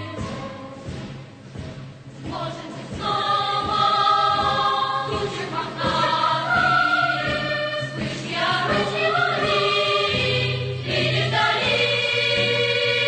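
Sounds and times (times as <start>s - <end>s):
choir singing held notes: 2.1s - 13.0s.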